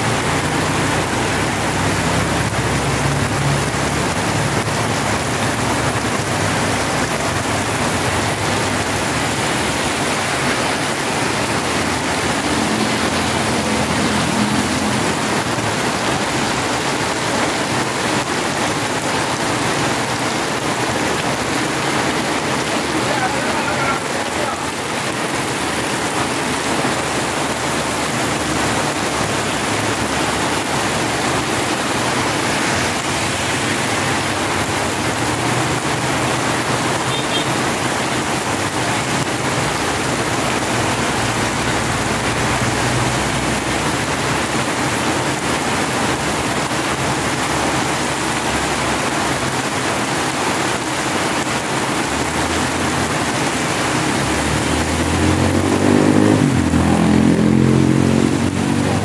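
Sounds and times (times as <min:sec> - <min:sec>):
heavy rain on pavement: 0:00.0 - 0:59.0
traffic on wet road: 0:00.0 - 0:59.0.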